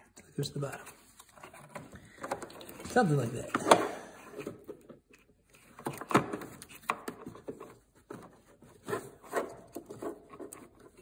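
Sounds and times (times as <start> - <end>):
plastic clicks and scrapes: 0.6 - 11.0.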